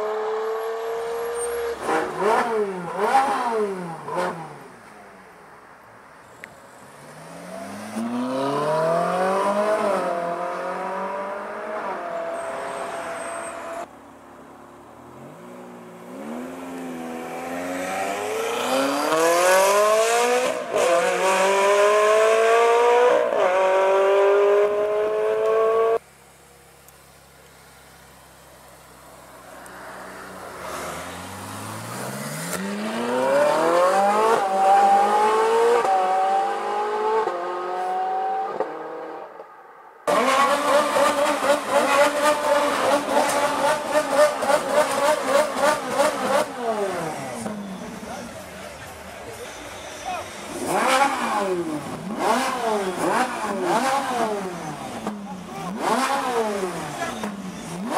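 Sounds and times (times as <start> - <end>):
sports car engine accelerating hard: 6.9 - 13.9, 15.0 - 39.4, 40.1 - 49.9, 50.5 - 57.9.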